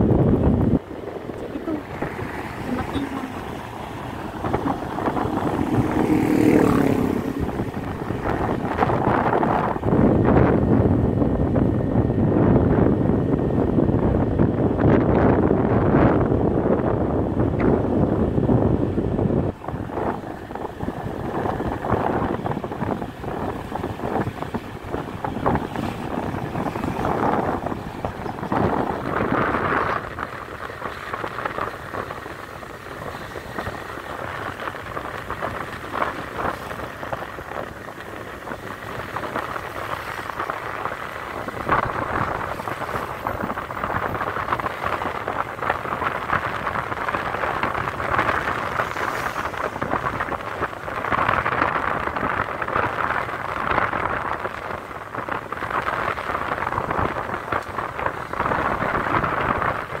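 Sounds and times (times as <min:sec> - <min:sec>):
motorcycle engine and road noise: 0:00.0 - 1:00.0
wind rushing over microphone: 0:00.0 - 1:00.0.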